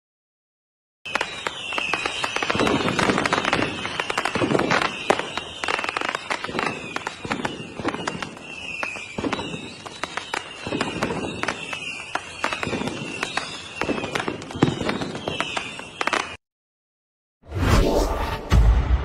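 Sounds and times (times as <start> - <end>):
firework bangs and crackling: 1.1 - 16.4
firework whistle sliding down: 1.1 - 16.4.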